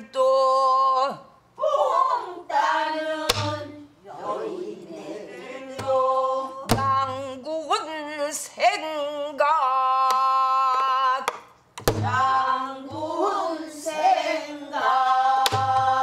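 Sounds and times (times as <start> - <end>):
woman singing with vibrato: 0.0 - 4.0, 4.6 - 11.3, 12.0 - 16.0.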